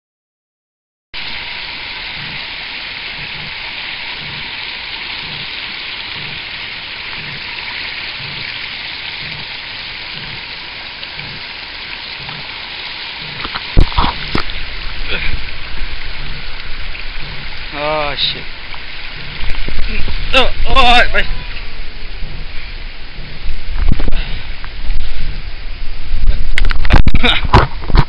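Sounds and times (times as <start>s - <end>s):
stream water over rocks: 1.2s - 28.0s.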